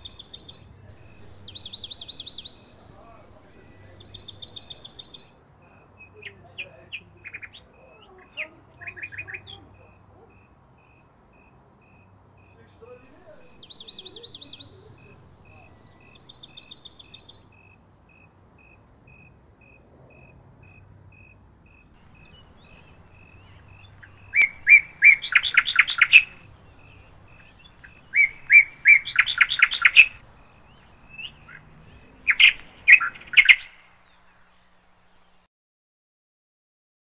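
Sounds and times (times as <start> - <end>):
songbird chirping: 0.0 - 35.5.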